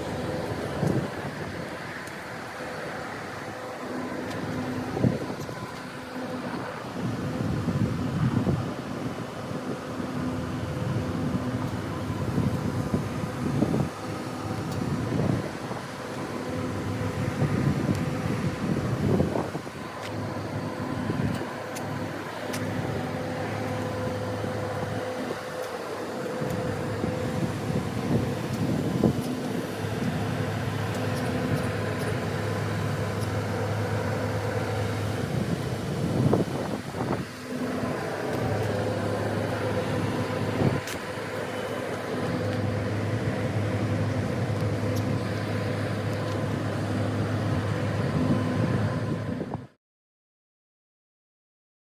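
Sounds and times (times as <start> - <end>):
diesel train engine humming: 0.0 - 49.7.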